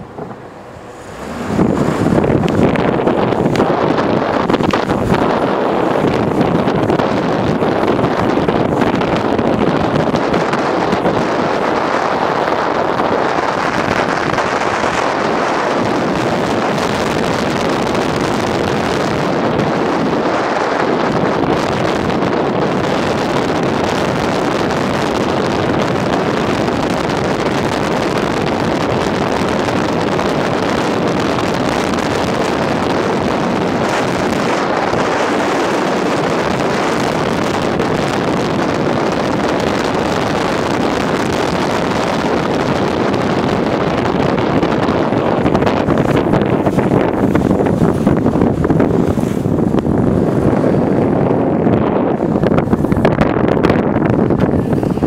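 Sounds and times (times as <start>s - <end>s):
car road noise: 0.0s - 55.0s
wind on microphone: 0.0s - 55.0s.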